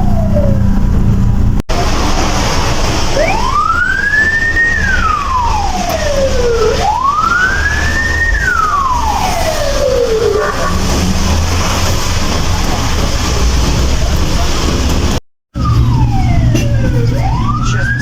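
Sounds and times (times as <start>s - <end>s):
ambulance siren wailing: 0.0s - 18.0s
low vehicle rumble: 0.0s - 18.0s.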